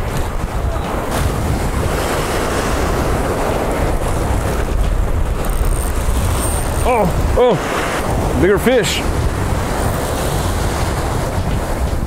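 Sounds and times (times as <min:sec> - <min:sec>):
surf waves breaking: 0:00.0 - 0:12.0
wind buffeting microphone: 0:00.0 - 0:12.0.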